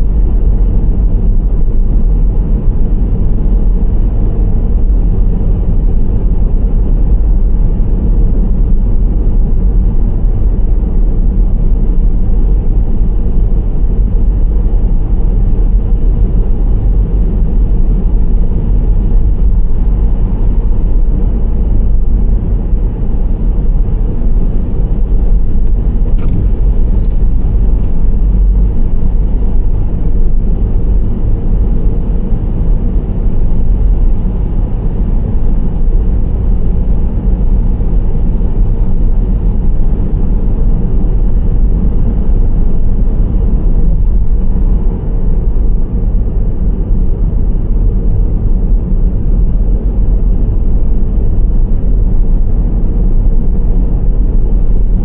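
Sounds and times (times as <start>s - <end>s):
minivan engine rumble: 0.0s - 55.0s.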